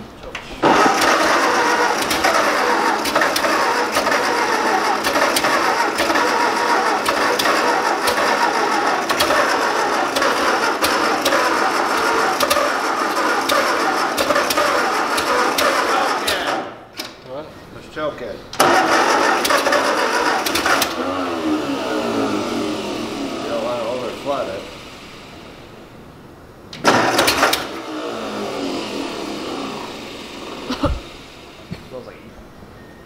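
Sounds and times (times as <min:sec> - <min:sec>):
starter motor cranking engine: 0:00.4 - 0:17.2, 0:18.6 - 0:25.8, 0:26.7 - 0:32.1.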